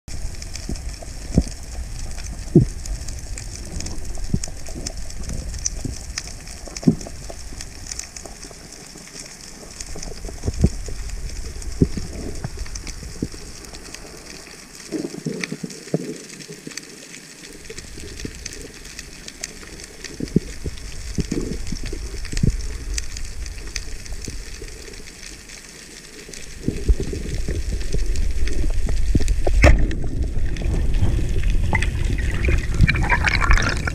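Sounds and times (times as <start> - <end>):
faint steady crackle: 0.0 - 33.9
muffled underwater rumble: 0.1 - 33.9.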